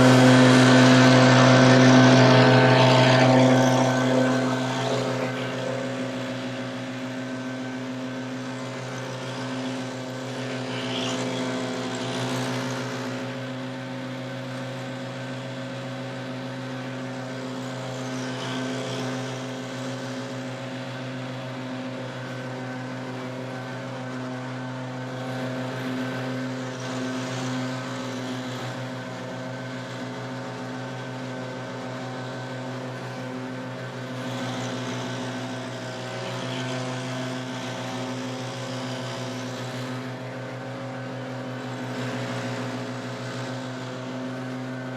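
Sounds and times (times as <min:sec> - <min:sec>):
small gas engine running: 0:00.0 - 0:44.9.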